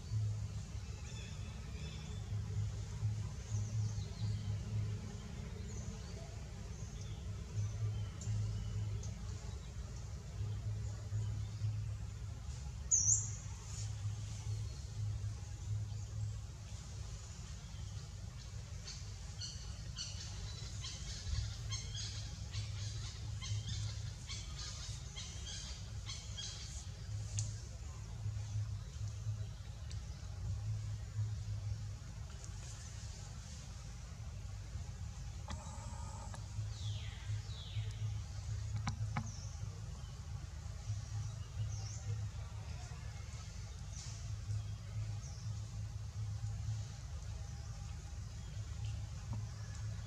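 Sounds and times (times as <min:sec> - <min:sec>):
birds chirping: 0:00.0 - 0:50.0
low uneven rumble: 0:00.0 - 0:50.0.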